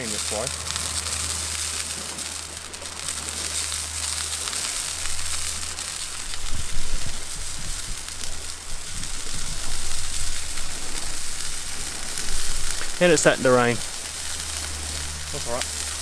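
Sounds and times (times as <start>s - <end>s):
hot oil sizzling and crackling: 0.0s - 16.0s
steady low rumble: 0.0s - 16.0s.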